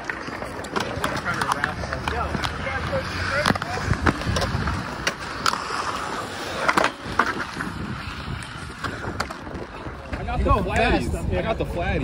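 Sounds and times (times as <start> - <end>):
clicks and knocks from skates: 0.0 - 11.0
skate wheels rolling on concrete: 0.0 - 12.0.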